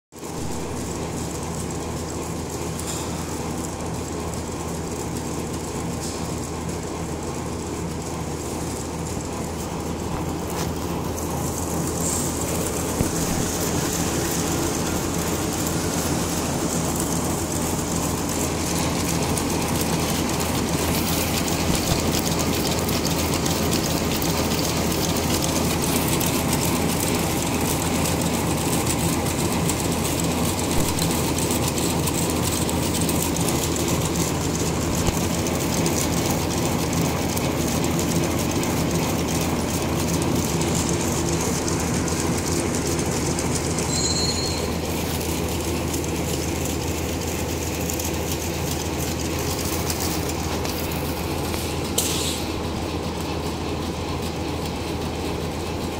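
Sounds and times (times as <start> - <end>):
packing machine clattering: 8.0 - 54.8.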